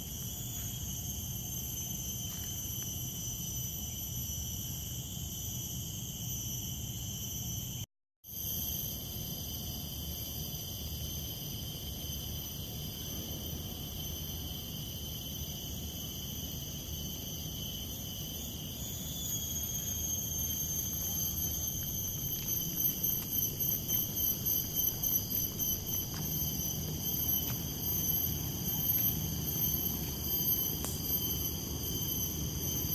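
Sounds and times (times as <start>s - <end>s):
shrill insect chorus: 0.0s - 32.9s.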